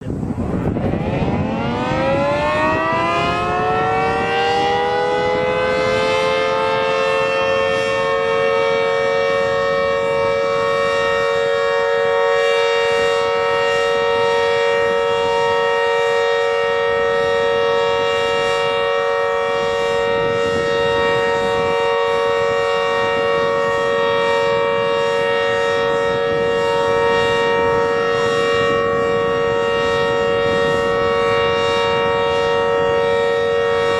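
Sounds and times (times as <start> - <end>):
warning siren winding up: 0.3 - 33.9.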